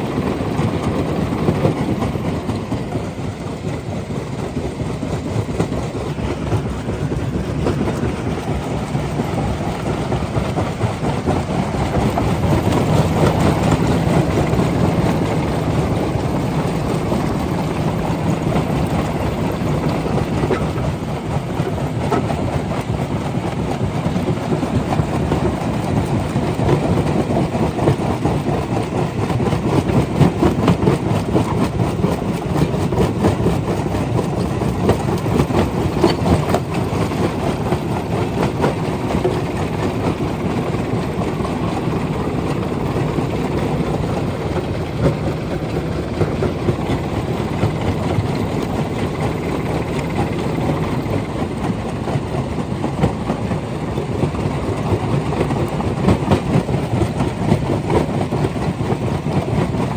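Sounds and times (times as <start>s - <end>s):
rock crusher running: 0.1s - 59.9s.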